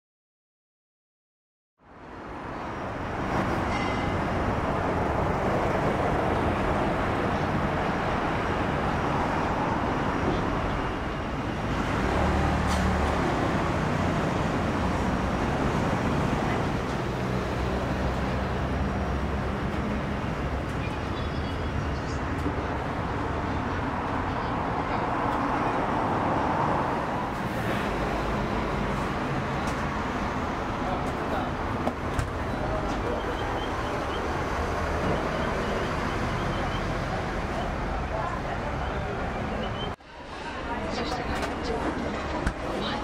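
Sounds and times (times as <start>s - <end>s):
road traffic: 1.8s - 43.0s.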